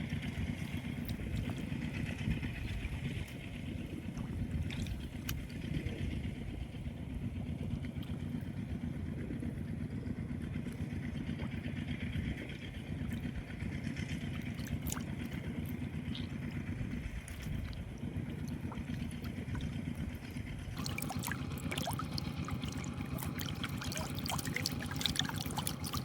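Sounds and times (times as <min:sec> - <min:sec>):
small engine droning: 0:00.0 - 0:26.0.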